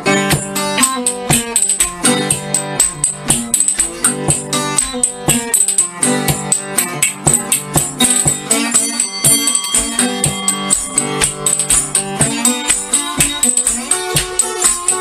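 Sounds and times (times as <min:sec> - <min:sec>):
background music with quick beat: 0:00.0 - 0:15.0.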